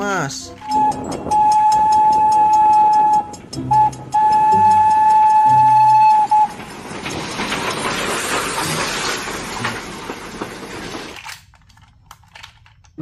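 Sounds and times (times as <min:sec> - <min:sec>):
steam train running past: 0:00.0 - 0:11.1.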